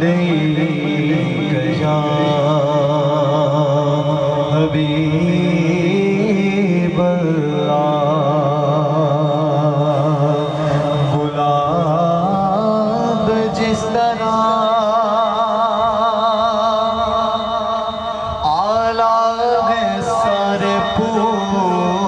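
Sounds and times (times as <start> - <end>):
man chanting slow melody: 0.0 - 22.0.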